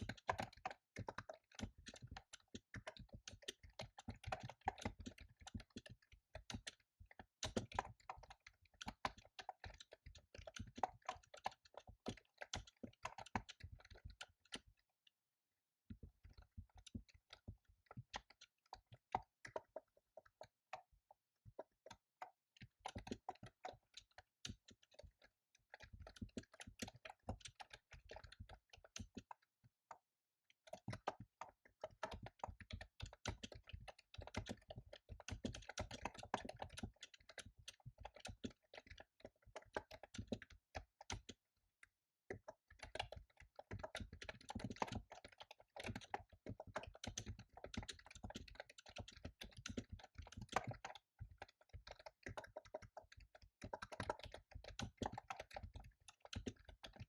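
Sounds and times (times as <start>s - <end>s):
typing on computer keyboard: 0.0s - 15.2s, 15.8s - 57.0s.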